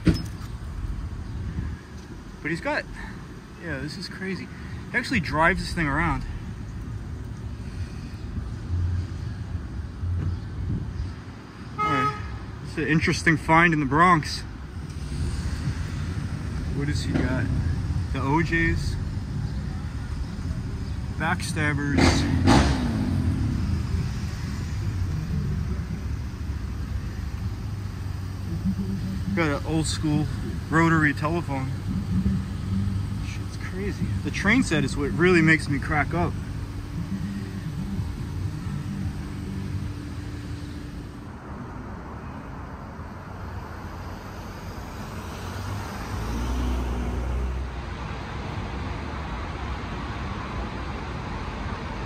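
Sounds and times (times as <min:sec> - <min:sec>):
vehicle engine running: 0:00.0 - 0:11.6, 0:12.7 - 0:49.6
street traffic rumble: 0:00.0 - 0:52.0.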